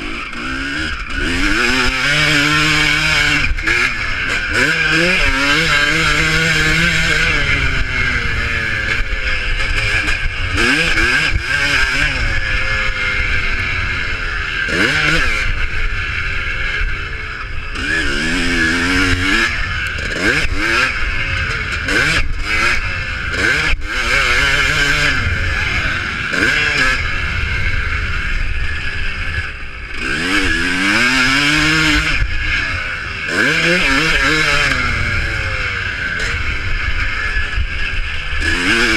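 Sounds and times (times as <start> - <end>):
motocross motorcycles revving: 0.0 - 38.9.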